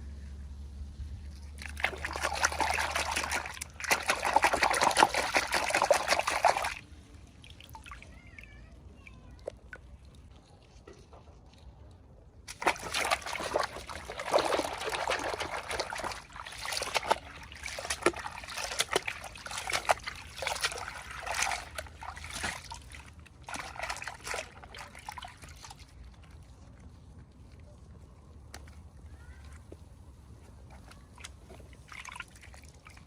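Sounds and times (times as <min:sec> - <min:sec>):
water trickling and sloshing: 0:00.0 - 0:33.0.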